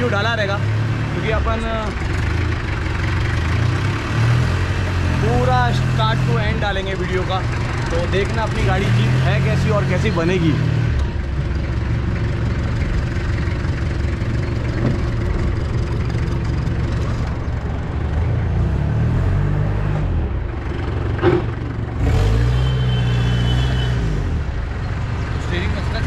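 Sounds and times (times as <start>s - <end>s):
jeep engine running: 0.0s - 26.0s.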